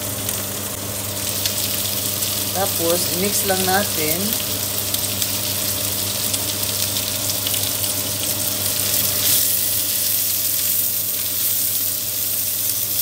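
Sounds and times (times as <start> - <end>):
food sizzling in a wok: 0.0 - 13.0
low steady hum: 0.0 - 13.0.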